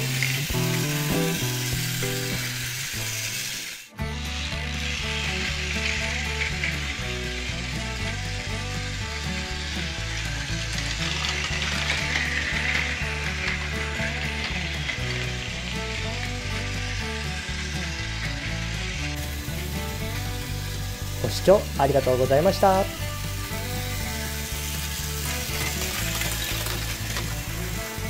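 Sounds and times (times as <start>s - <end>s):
plastic wheels rattling on track: 0.0s - 2.6s, 5.0s - 18.5s, 19.2s - 28.0s
toy train motor and gears running: 0.0s - 28.0s
background music with bass line: 4.0s - 28.0s.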